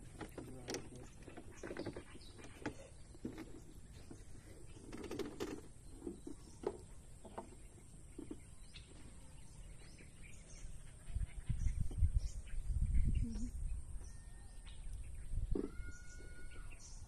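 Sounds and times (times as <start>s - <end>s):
bird chirps: 0.0s - 17.0s
low rumbling on microphone: 0.0s - 17.0s.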